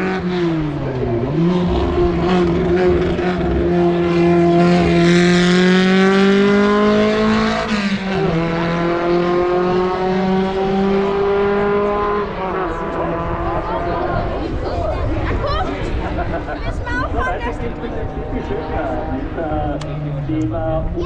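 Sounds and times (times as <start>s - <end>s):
race car engine accelerating: 0.0s - 16.6s, 17.2s - 21.0s.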